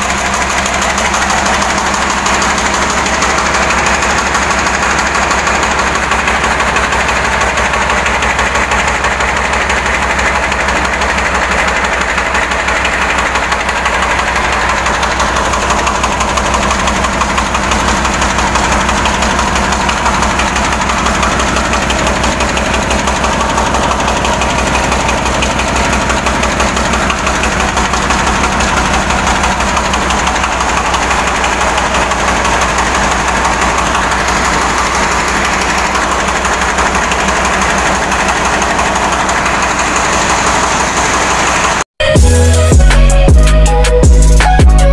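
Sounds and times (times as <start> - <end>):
hand tractor diesel engine running: 0.0 - 44.9.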